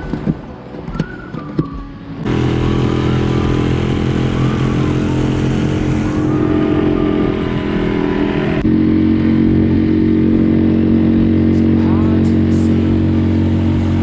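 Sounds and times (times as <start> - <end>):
outboard motor running: 2.2 - 14.0
water noise: 2.2 - 14.0.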